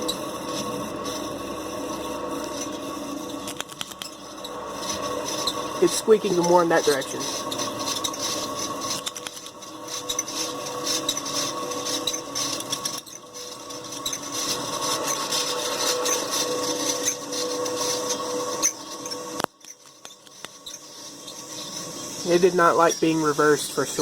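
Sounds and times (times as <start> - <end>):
fan bearings squeaking: 0.0 - 24.0
fan motor humming: 0.0 - 24.0.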